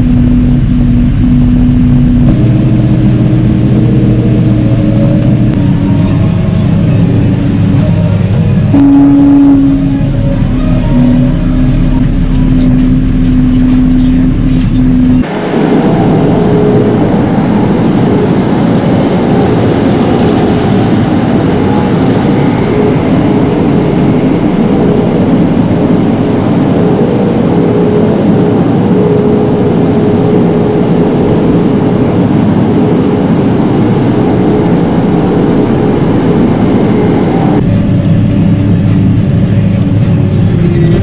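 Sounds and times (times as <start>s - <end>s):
diesel engine droning: 0.0s - 41.0s
steady tone: 0.0s - 41.0s.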